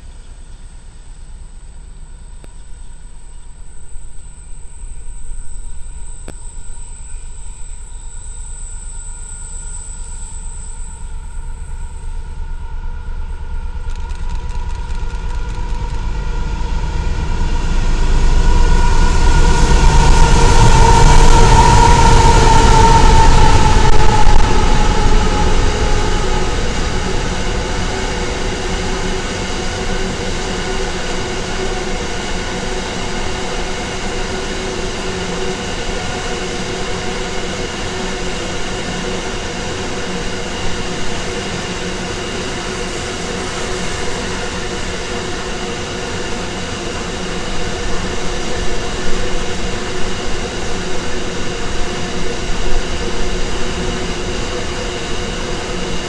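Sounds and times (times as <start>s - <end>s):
diesel locomotive engine: 0.0s - 56.0s
train wheels rumbling on rails: 0.0s - 56.0s.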